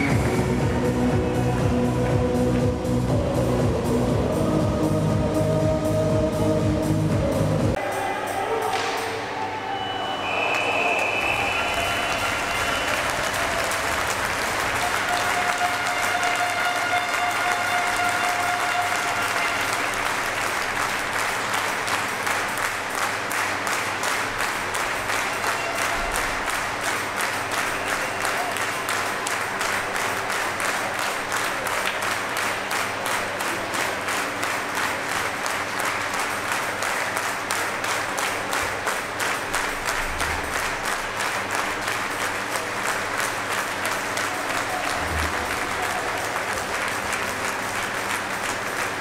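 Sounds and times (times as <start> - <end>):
crowd applauding: 0.0 - 0.8, 9.5 - 49.0
rhythmic clapping beat: 0.0 - 7.8, 11.1 - 49.0.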